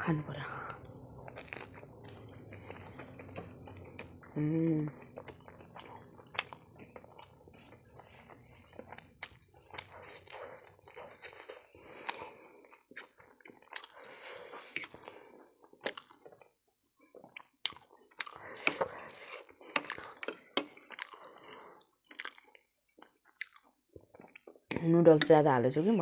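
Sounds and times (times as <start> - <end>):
close chewing: 0.8 - 25.3.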